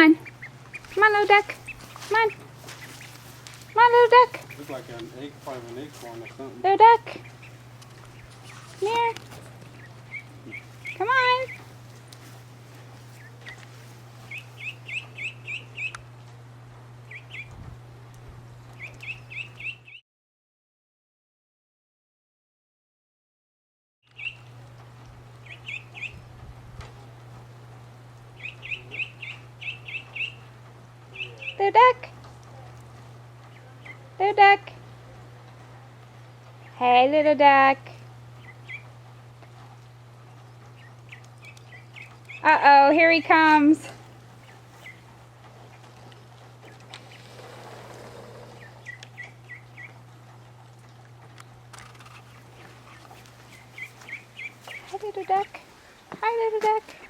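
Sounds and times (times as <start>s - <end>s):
duckling peeping: 0.0s - 16.1s, 17.0s - 20.0s, 24.1s - 57.0s
steady low hum: 0.0s - 20.0s, 24.1s - 57.0s.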